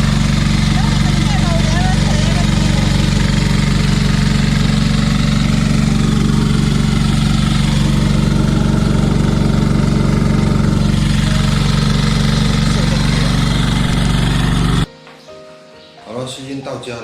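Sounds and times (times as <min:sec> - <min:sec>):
engine low drone: 0:00.0 - 0:14.9.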